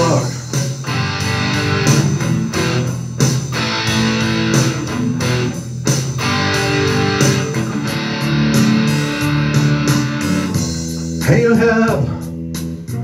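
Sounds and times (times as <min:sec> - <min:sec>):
electric guitar strumming chords: 0:00.0 - 0:11.2
rock backing track: 0:00.0 - 0:13.0.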